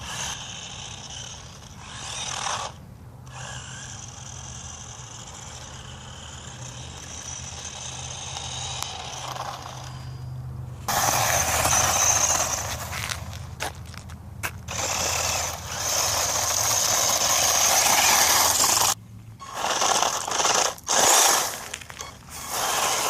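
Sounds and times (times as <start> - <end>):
toy truck motor whining: 0.0 - 13.4, 14.7 - 23.0.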